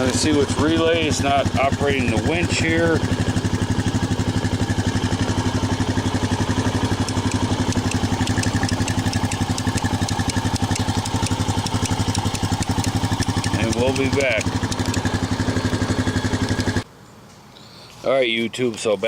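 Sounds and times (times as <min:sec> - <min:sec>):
atv engine idling: 0:00.0 - 0:16.9.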